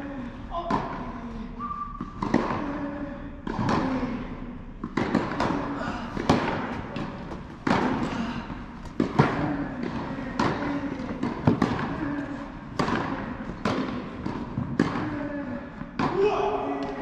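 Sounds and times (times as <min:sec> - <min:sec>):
tennis balls struck and bouncing: 0:00.5 - 0:01.2, 0:02.0 - 0:17.0.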